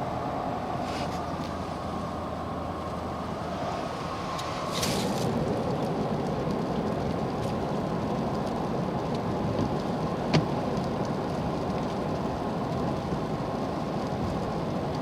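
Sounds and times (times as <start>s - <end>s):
truck cabin road and engine noise: 0.0s - 15.0s.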